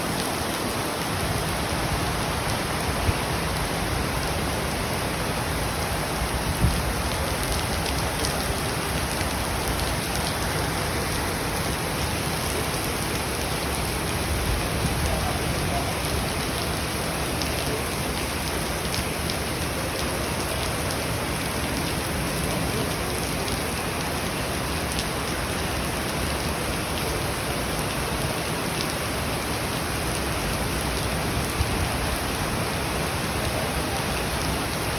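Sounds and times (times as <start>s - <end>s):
heavy rain hissing: 0.0s - 34.9s.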